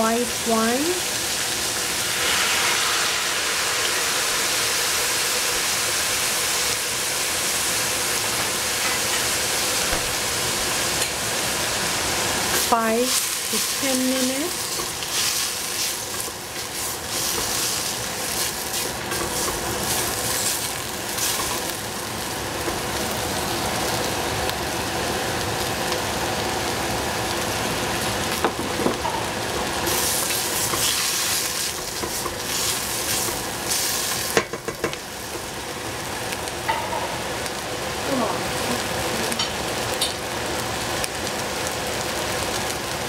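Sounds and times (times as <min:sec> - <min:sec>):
vegetables sizzling in a pan: 0:00.0 - 0:43.0.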